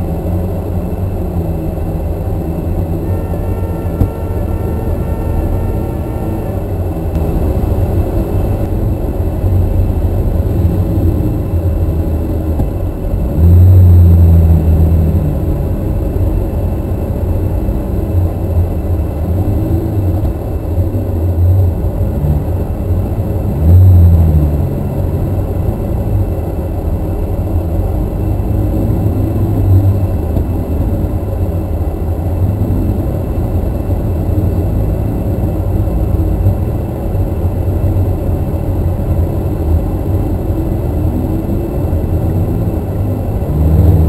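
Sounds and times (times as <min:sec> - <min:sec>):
car engine revving inside cabin: 0:00.0 - 0:44.0.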